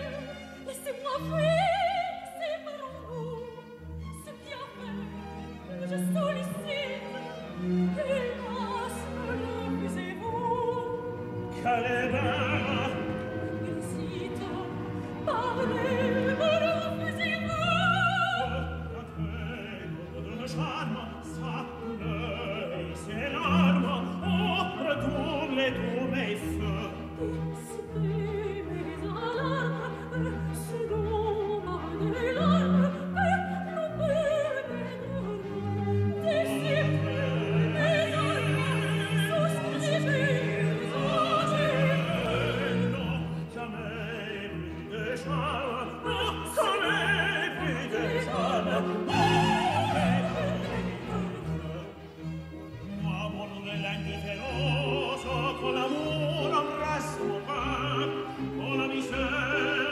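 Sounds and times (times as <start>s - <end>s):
operatic singing: 0.0s - 59.9s
orchestral accompaniment: 0.0s - 59.9s.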